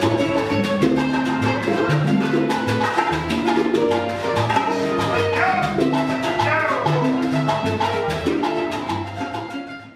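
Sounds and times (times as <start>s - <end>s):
salsa music: 0.0s - 9.9s.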